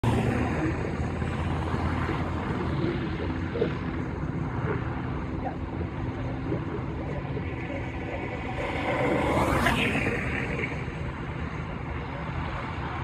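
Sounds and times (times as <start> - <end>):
helicopter rotor and turbine: 0.0 - 13.0.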